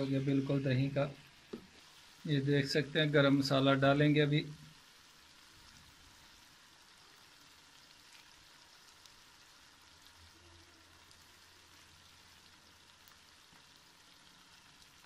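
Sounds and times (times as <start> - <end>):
minced meat sizzling in a pot: 0.0 - 15.0.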